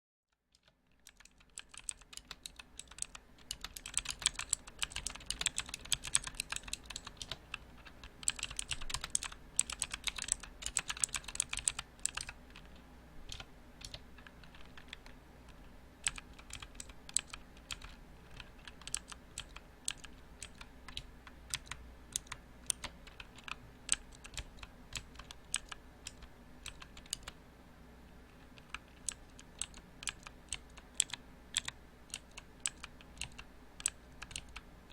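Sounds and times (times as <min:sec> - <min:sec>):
mechanical keyboard typing: 0:00.4 - 0:27.4, 0:28.3 - 0:34.9.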